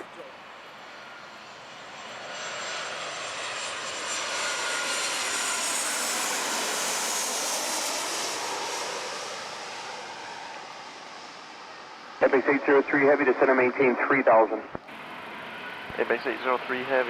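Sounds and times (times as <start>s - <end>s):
high jet engine whine: 0.0s - 17.0s
jet airliner passing overhead: 0.0s - 17.0s.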